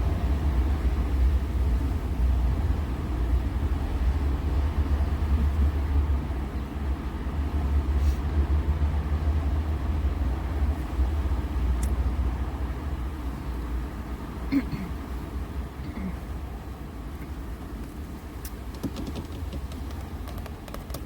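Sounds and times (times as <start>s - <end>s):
car engine rumble inside cabin: 0.0s - 21.0s
road noise: 0.0s - 21.0s.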